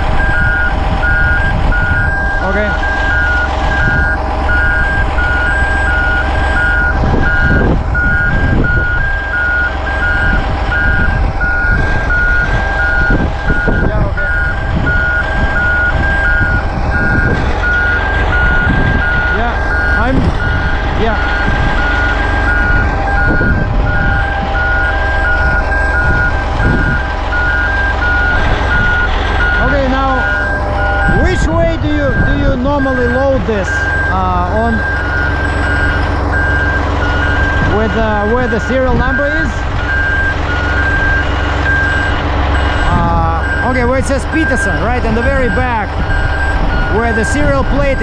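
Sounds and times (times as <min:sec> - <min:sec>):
diesel engine rumbling: 0:00.0 - 0:48.0
two-tone backup alarm beeping: 0:00.2 - 0:48.0.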